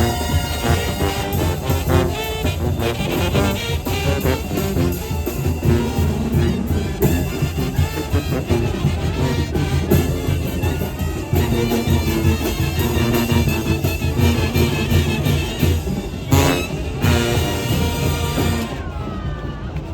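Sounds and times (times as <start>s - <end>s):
tuba bass line: 0.0s - 18.8s
brass bands playing: 0.0s - 19.8s
drums: 0.0s - 19.9s.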